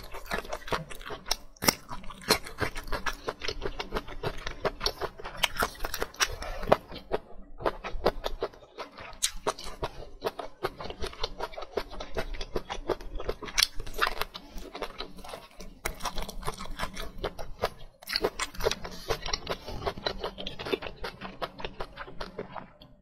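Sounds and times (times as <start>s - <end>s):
person chewing with wet smacks: 0.0s - 23.0s.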